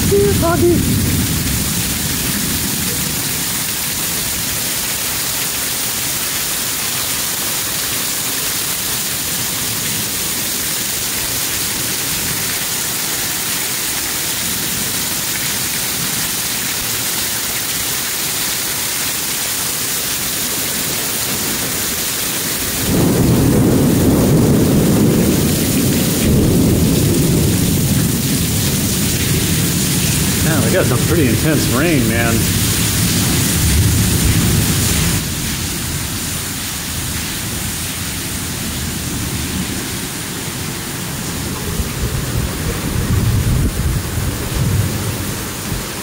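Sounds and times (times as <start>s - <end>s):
heavy rain pouring: 0.0s - 46.0s.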